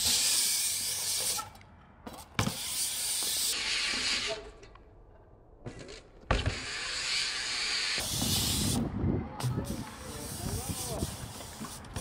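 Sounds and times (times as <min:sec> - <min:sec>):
bike tyres hissing on concrete: 0:00.0 - 0:04.6, 0:06.3 - 0:12.0.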